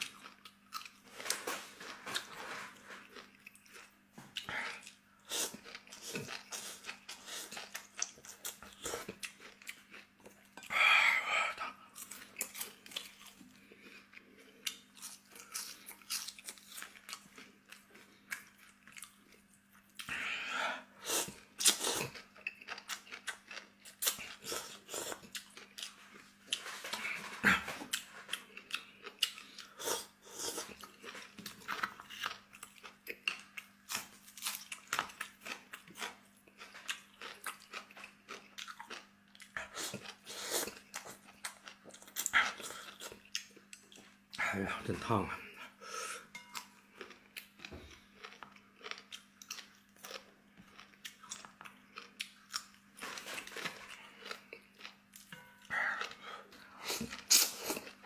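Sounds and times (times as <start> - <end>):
faint steady hum: 0.0 - 58.0
person chewing crunchy food: 0.0 - 58.0.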